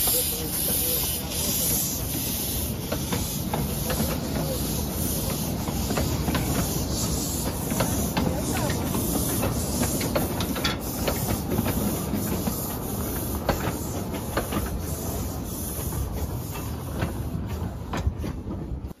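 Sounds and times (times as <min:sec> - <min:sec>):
train rumbling with rattles and clicks: 0:00.0 - 0:19.0.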